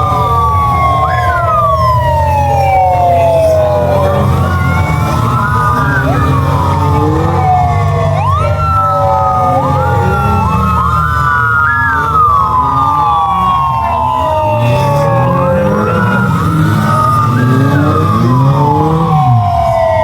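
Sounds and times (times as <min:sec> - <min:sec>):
motorcycle engines rumbling: 0:00.0 - 0:20.0
police motorcycle sirens wailing: 0:00.0 - 0:20.0.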